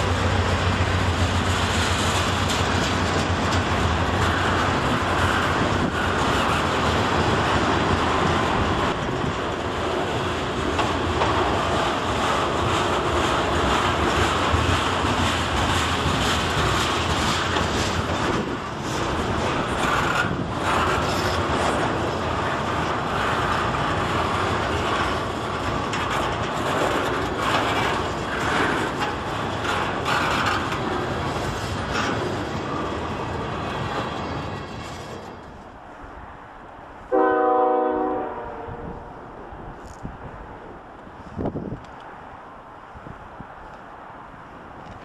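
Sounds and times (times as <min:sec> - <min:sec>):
freight train wheels on rails: 0:00.0 - 0:45.0.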